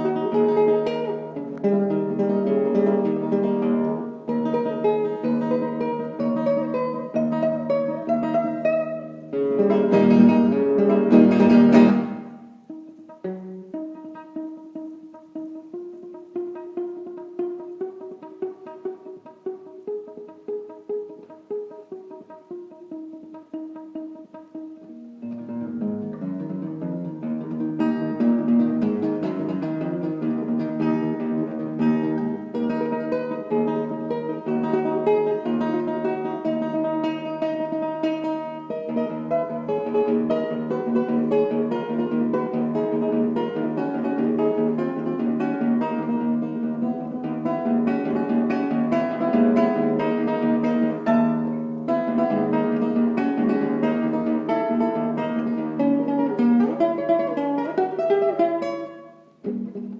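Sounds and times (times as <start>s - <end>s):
plucked guitar melody: 0.0s - 59.9s.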